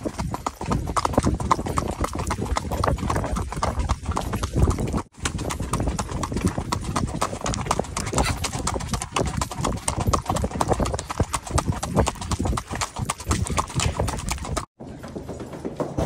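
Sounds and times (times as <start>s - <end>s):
horse hooves on gravel: 0.0s - 16.0s.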